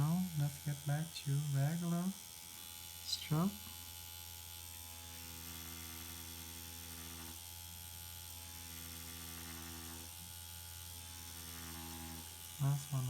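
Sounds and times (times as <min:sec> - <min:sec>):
machine pen buzzing: 0:00.0 - 0:13.0.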